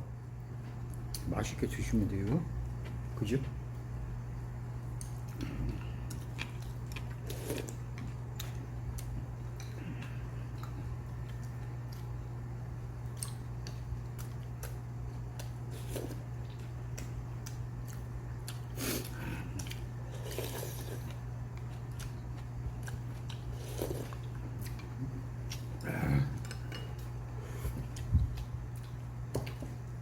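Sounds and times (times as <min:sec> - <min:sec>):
steady low hum: 0:00.0 - 0:30.0
person chewing: 0:04.9 - 0:12.4, 0:13.0 - 0:29.9.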